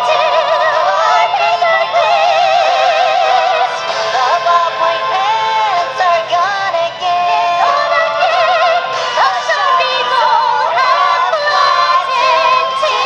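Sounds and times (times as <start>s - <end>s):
musical accompaniment: 0.0s - 13.0s
voices singing with vibrato: 0.0s - 13.0s.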